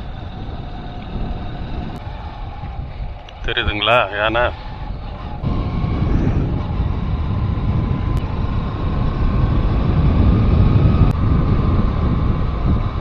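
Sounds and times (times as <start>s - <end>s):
faint whine: 0.0s - 13.0s
vehicle engine and road rumble: 0.0s - 13.0s
wind buffeting microphone: 0.0s - 13.0s.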